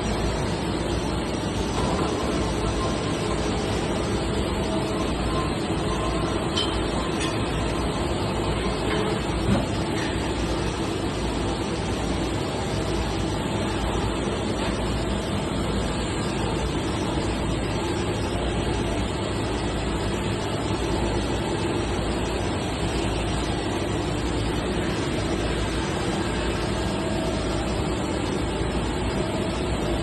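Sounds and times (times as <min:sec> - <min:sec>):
faint constant hum: 0:00.0 - 0:30.0
sheet-metal machinery running: 0:00.0 - 0:30.0.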